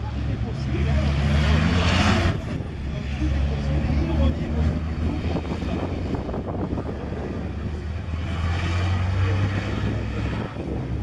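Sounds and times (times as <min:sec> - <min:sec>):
racing truck engines passing: 0:00.0 - 0:11.0.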